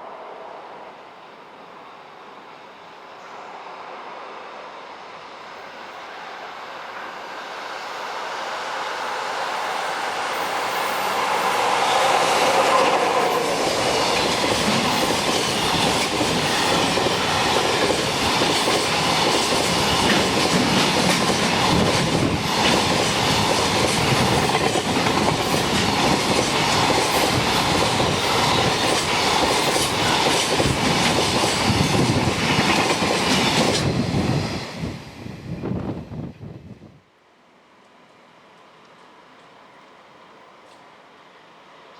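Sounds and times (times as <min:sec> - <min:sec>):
train whine: 0:00.0 - 0:41.9.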